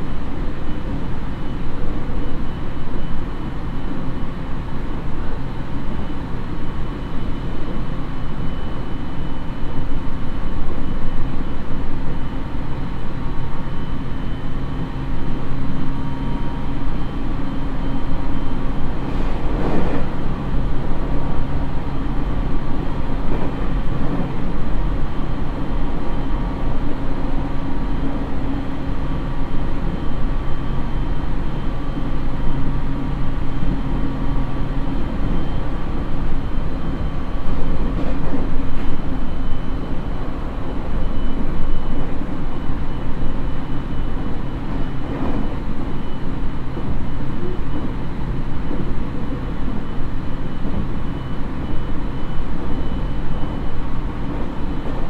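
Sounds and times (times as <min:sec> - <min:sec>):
train motor and inverter hum: 0:00.0 - 0:55.0
wheel-on-rail rumble: 0:00.0 - 0:55.0.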